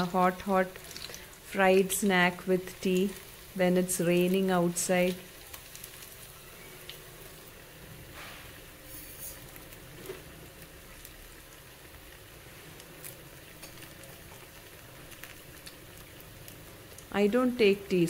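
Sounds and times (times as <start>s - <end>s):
deep-frying sizzle and crackle: 0.0s - 18.0s.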